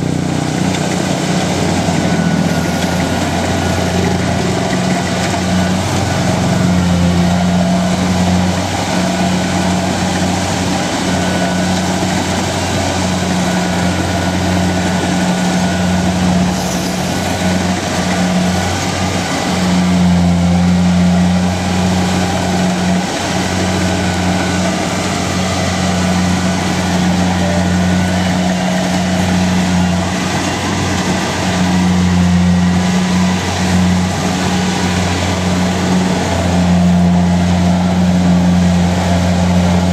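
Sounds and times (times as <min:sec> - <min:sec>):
diesel engine droning: 0:00.0 - 0:39.9
machinery noise: 0:00.0 - 0:39.9.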